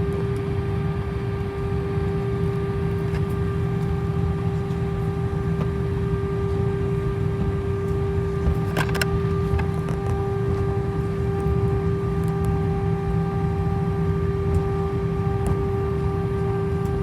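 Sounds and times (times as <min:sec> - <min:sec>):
aircraft engines rumble and whine: 0:00.0 - 0:17.0.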